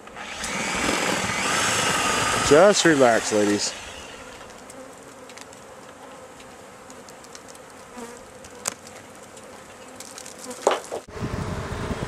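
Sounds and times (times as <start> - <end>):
bees buzzing: 0.0 - 12.0
bees bumping into veil: 0.3 - 11.1.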